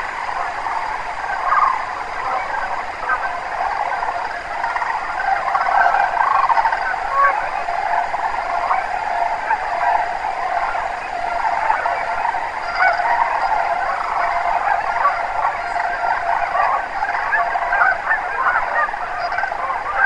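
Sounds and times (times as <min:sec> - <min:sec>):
flock of cranes calling: 0:00.0 - 0:20.0.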